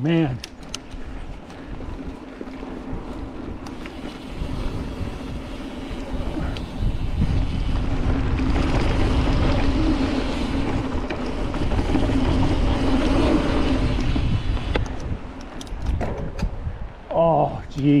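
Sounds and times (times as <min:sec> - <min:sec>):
wind rushing over microphone: 0:00.6 - 0:18.0.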